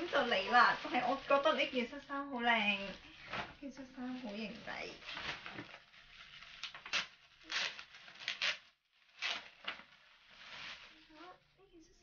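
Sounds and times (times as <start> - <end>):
paper bag rustling: 0.0 - 11.5
plastic packaging crinkling: 0.0 - 11.8.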